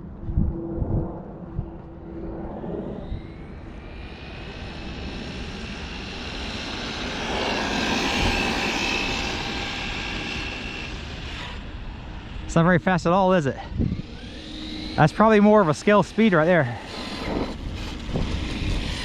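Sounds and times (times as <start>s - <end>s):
wind rumble on microphone: 0.0s - 19.0s
rc truck motor whining: 2.6s - 19.0s.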